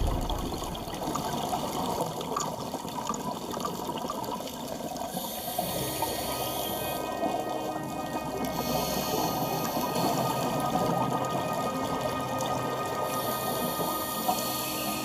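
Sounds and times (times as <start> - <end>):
underwater water noise: 0.0 - 15.0.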